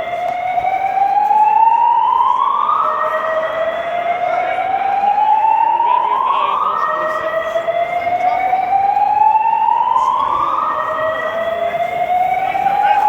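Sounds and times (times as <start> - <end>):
rising whoop alarm tone: 0.7 - 13.0.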